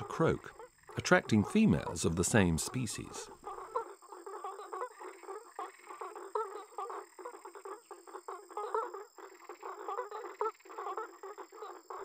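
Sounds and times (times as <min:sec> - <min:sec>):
frogs croaking in chorus: 0:00.0 - 0:12.0.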